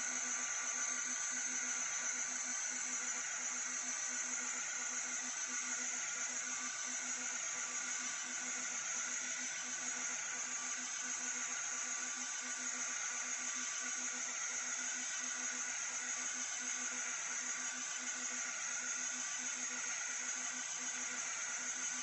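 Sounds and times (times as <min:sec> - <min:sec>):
pulsing motor hum: 0:00.0 - 0:22.0.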